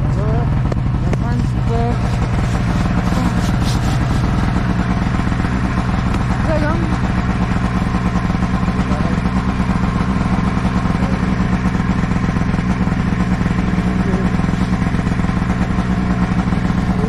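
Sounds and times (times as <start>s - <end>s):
snowmobile engine droning: 0.0s - 17.0s.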